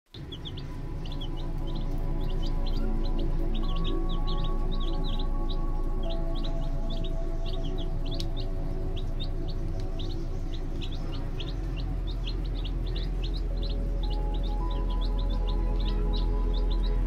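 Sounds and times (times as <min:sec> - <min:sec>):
background music with sustained tones: 0:00.1 - 0:17.0
chicks peeping: 0:00.1 - 0:17.0.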